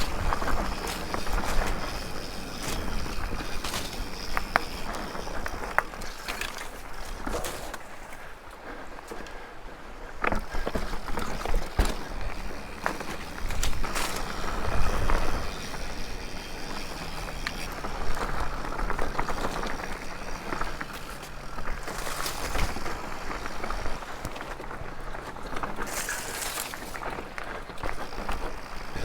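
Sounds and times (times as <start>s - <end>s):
bike tyres on dirt and rock: 0.0s - 29.0s.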